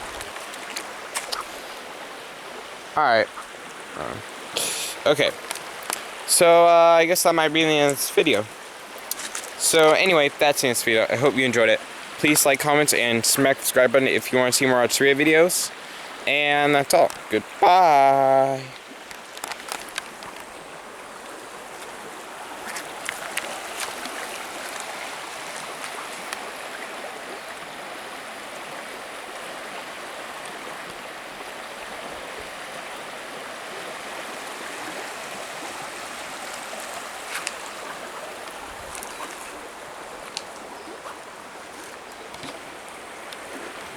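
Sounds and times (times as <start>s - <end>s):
creek water over rocks: 0.0s - 43.9s.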